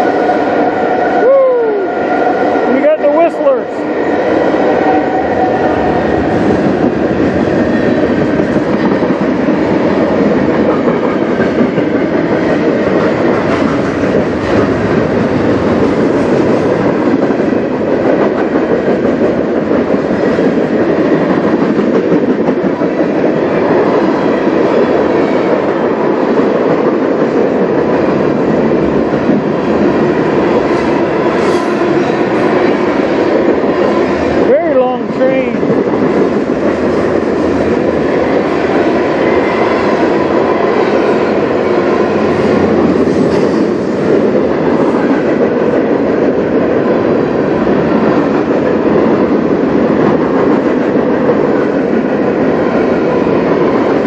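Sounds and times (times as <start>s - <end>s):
freight train wheels rolling: 0.0s - 54.0s.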